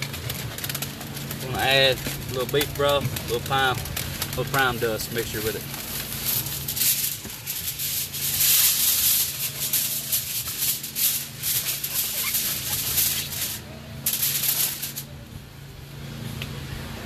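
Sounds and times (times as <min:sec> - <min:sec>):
aluminium foil crinkling: 0:00.0 - 0:15.3.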